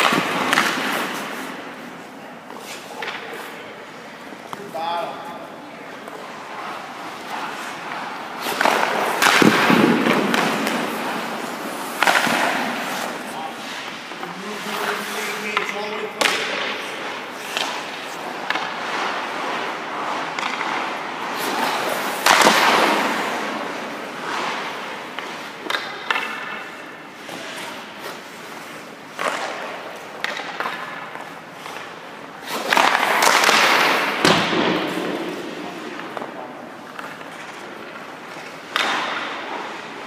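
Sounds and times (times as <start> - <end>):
skate blades scraping ice: 0.0 - 4.8, 5.5 - 40.0.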